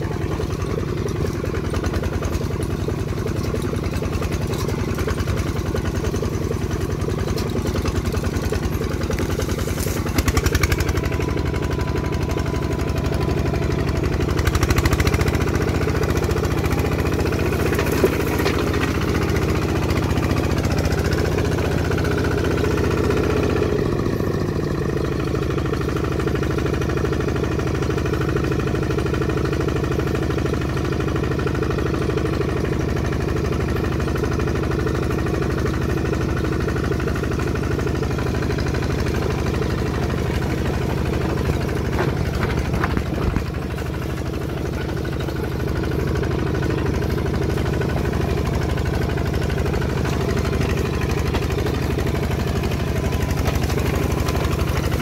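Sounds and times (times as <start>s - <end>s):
diesel tractor engine chugging: 0.0s - 55.0s.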